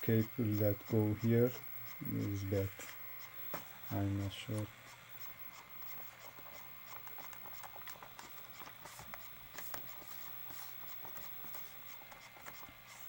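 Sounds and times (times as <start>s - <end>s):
light clicks and scratches: 0.0s - 13.0s.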